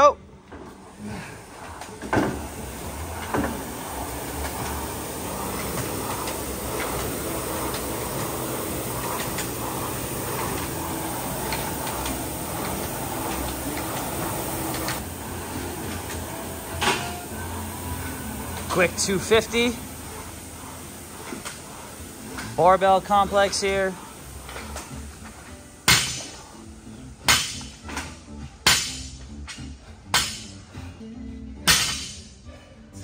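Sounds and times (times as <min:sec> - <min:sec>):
fan flywheels whooshing: 0:00.5 - 0:30.9.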